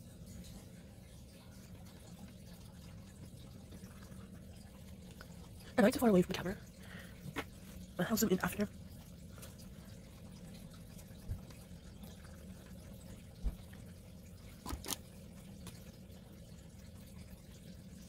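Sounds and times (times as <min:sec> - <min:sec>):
quiet low hum: 0:00.0 - 0:18.0.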